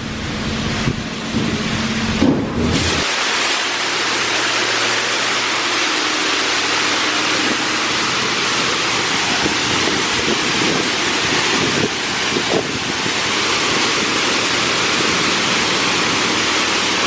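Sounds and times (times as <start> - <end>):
car wash spraying water: 0.0 - 17.0.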